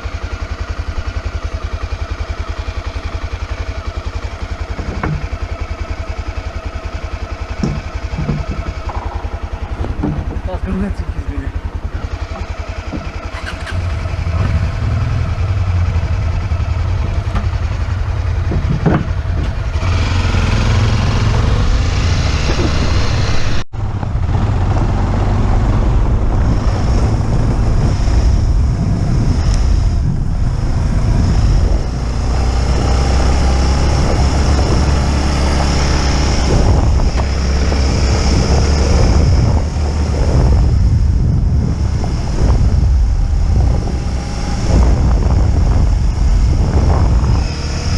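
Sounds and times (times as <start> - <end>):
motorcycle engine running: 0.0 - 47.9
wind rushing over microphone: 7.0 - 47.9.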